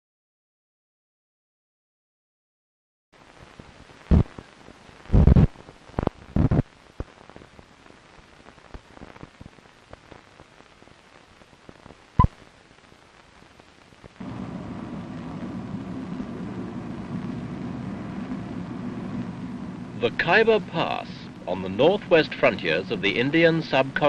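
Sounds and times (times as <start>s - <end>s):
old soundtrack hiss and crackle: 3.2s - 24.0s.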